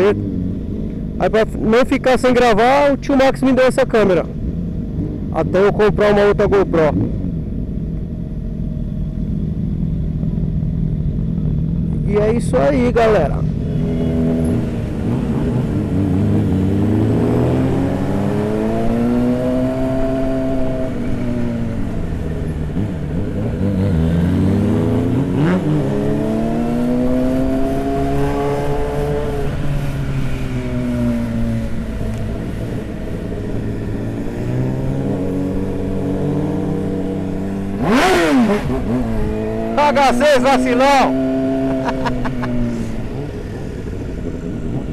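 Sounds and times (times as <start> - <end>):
motorcycle engine accelerating: 4.2 - 44.9.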